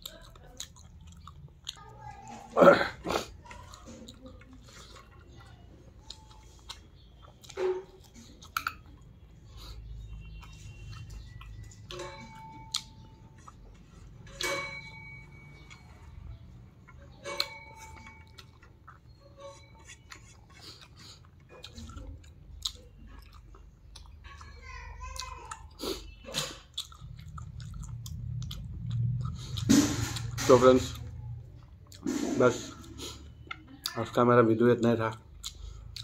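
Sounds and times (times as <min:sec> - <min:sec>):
chewing and lip-smacking: 0:00.0 - 0:32.1, 0:32.8 - 0:36.0.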